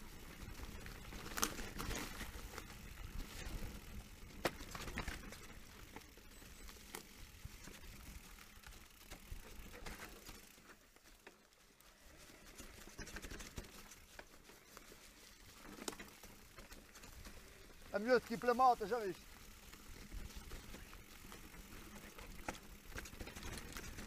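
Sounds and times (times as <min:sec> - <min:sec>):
bike frame and chain rattling: 0:00.0 - 0:24.0
tyres crunching over leaves and stones: 0:00.0 - 0:24.0.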